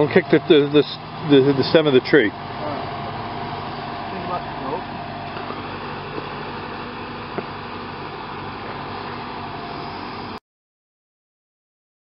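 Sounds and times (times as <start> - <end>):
tractor engine running: 0.0 - 10.4.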